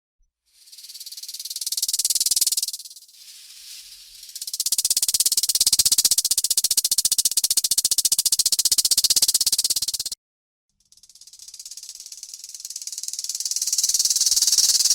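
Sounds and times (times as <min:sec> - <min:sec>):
rattlesnake tail rattle: 0:00.5 - 0:10.2, 0:10.8 - 0:14.9.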